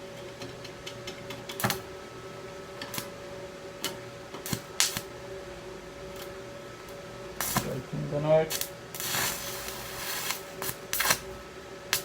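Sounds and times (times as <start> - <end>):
arc welding machine hum: 0.0 - 12.0.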